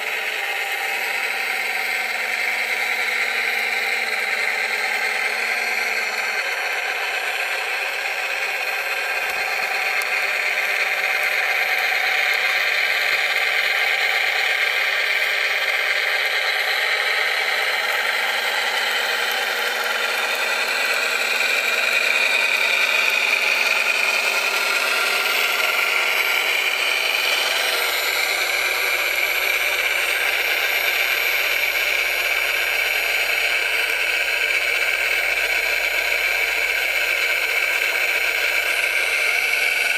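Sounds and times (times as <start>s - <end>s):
model loader motor whir: 0.0s - 39.9s.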